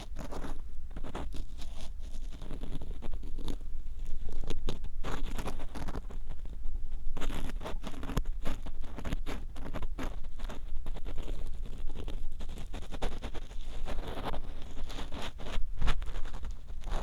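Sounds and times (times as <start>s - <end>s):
ear pick scraping inside microphone ear: 0.0s - 6.6s, 7.2s - 17.0s.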